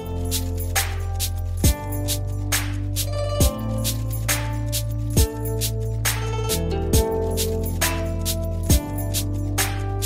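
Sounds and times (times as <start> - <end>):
lo-fi background music: 0.0 - 10.0.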